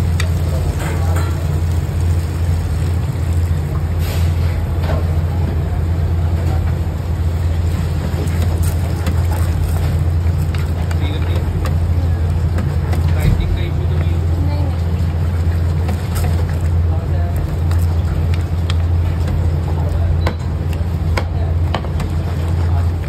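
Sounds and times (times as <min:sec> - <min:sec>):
kitchen machinery humming: 0:00.0 - 0:23.0.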